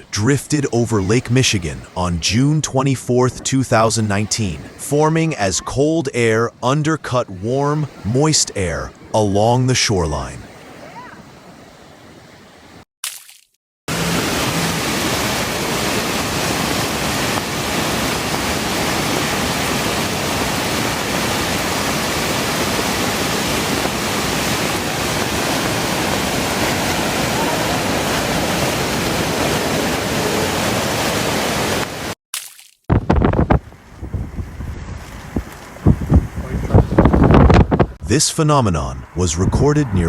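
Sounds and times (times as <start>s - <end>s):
steady rushing noise: 0.0s - 10.5s, 13.9s - 32.2s, 32.9s - 40.0s.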